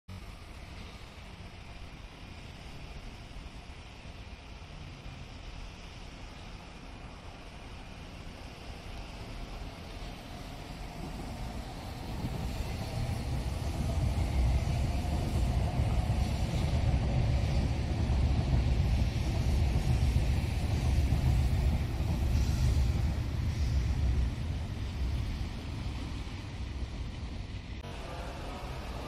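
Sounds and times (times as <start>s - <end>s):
train rumbling past: 0.1s - 29.0s.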